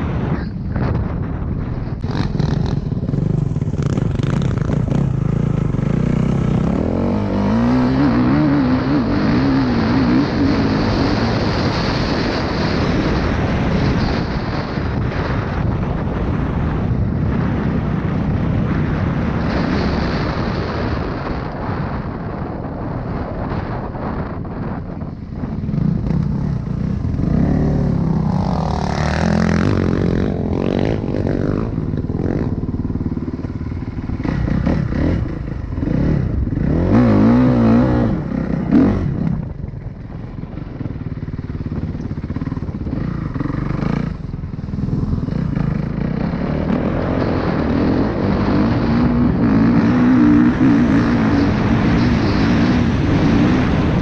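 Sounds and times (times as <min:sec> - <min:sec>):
dirt bike engine revving: 0:01.9 - 0:16.6, 0:24.0 - 0:54.0.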